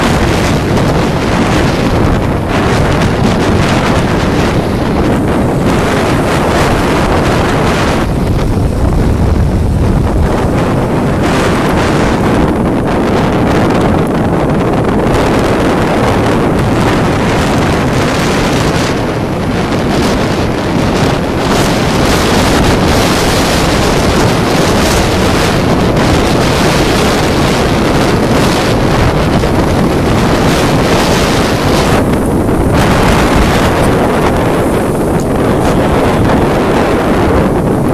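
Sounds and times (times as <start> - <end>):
storm waves roaring: 0.0 - 37.9
wind buffeting microphone: 0.0 - 37.9.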